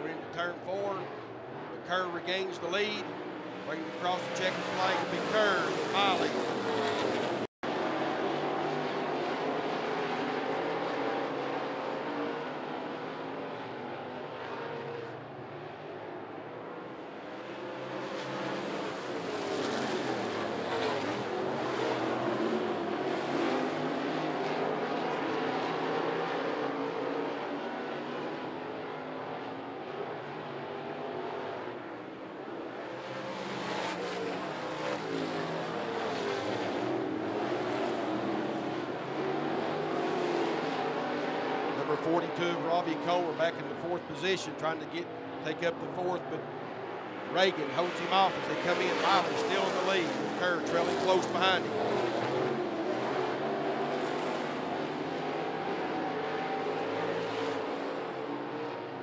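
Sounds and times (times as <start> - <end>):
race car engines roaring: 0.0 - 59.0.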